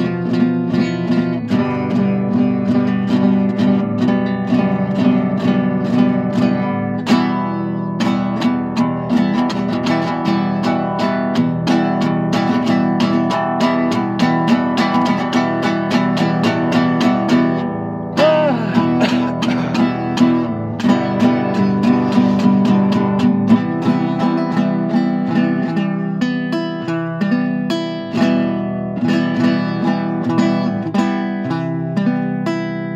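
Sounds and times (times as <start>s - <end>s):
acoustic guitar picking and strumming: 0.0s - 32.9s.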